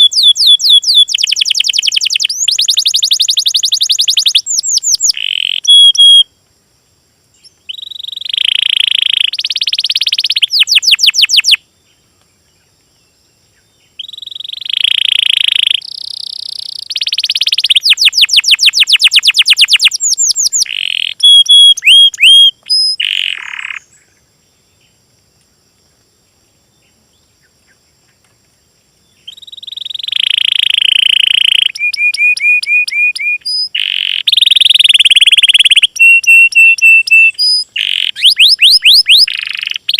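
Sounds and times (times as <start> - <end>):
songbirds trilling and chirping: 0.0 - 6.4, 7.3 - 39.9.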